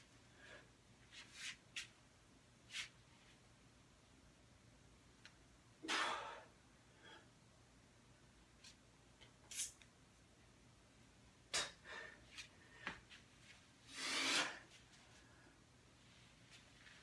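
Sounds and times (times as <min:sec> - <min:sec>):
noisy hiss: 0:00.0 - 0:17.0.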